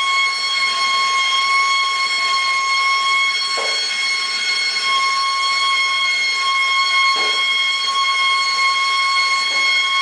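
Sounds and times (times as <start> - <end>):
gas torch whistling: 0.0 - 10.0.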